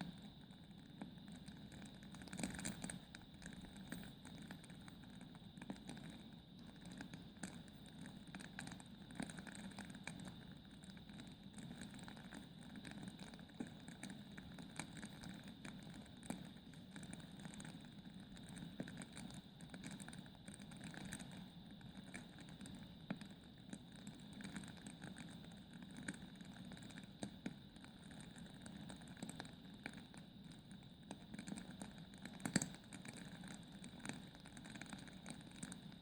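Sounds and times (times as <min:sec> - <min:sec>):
fire steady low hiss: 0:00.0 - 0:36.0.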